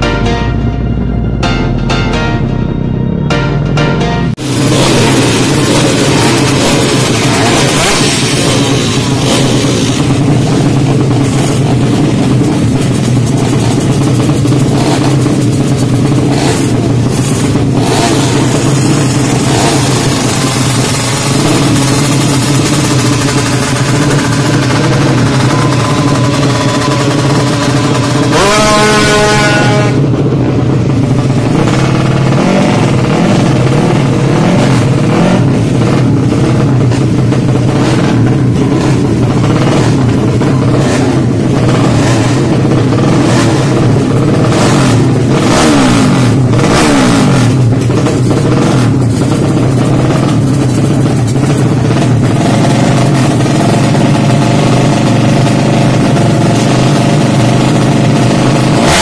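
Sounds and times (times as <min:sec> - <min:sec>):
motorcycle engine revving hard: 0:04.3 - 0:59.0.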